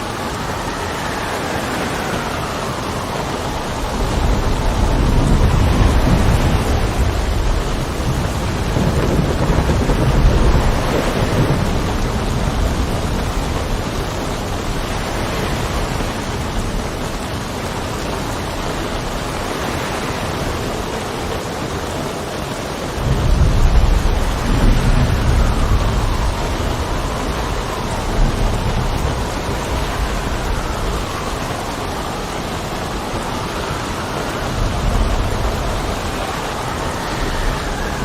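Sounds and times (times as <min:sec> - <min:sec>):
heavy rain: 0:00.0 - 0:38.0
thunder rumbling: 0:00.0 - 0:38.0.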